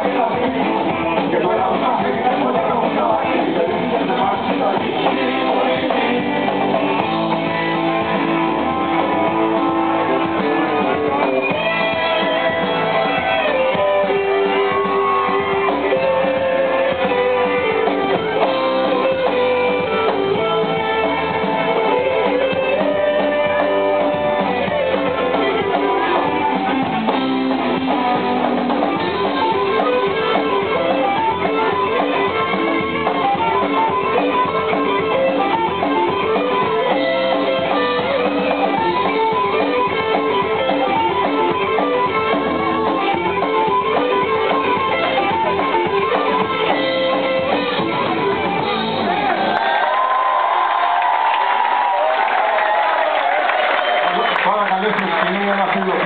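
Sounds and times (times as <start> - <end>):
electric guitar melody bending: 0.0 - 49.7
live rock band playing: 0.0 - 56.0.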